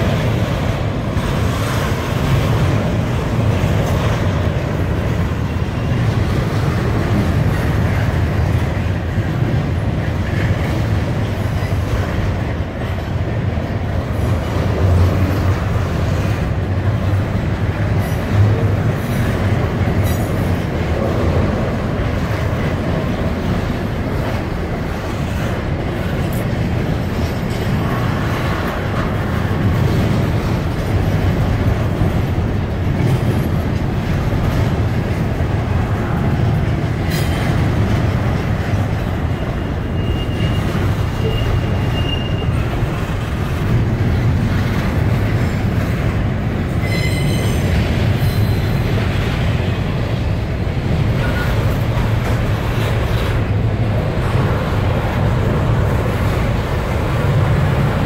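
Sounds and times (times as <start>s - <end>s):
freight train wheels rumbling: 0.0s - 58.0s
wheels clacking over rail joints: 0.0s - 58.0s.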